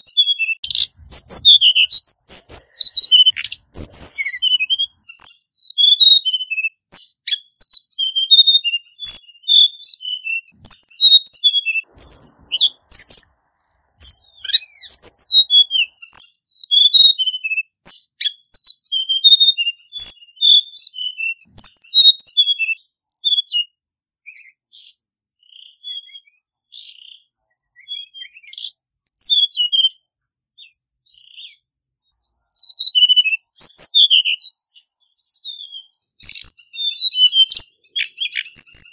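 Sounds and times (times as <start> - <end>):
bird singing high clear notes: 0.0 - 6.8, 10.0 - 17.7, 20.9 - 38.9.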